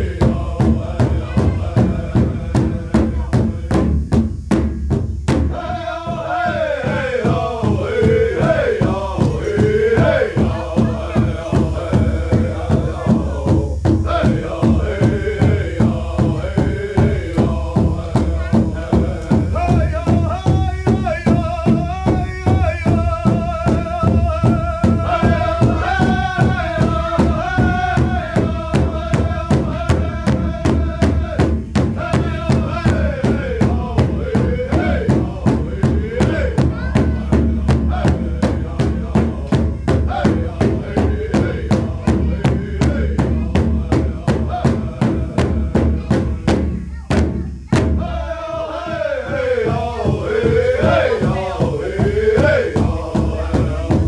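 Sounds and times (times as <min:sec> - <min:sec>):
chanted singing: 0:00.0 - 0:04.1, 0:05.4 - 0:54.0
steady drumbeat on big drum: 0:00.0 - 0:54.0.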